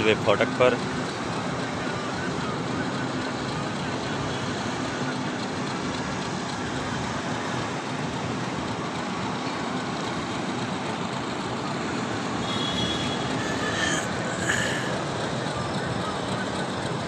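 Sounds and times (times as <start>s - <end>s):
diesel locomotive hauling train: 0.0s - 17.0s.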